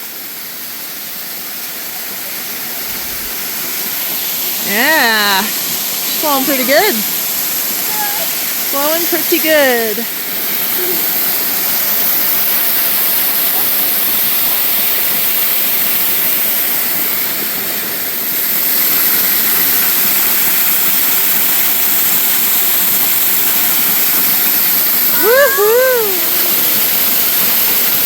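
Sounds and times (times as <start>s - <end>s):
waterfall rushing: 1.0s - 28.0s.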